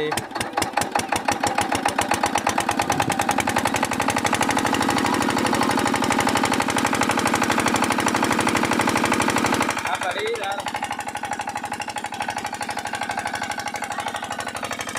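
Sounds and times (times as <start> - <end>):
diesel engine chugging: 0.0 - 14.9.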